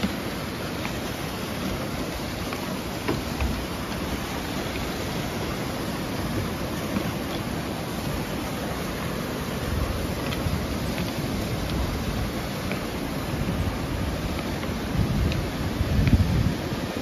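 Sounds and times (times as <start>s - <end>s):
footsteps on wooden steps: 0.0s - 16.7s
waterfall rushing: 0.0s - 17.0s.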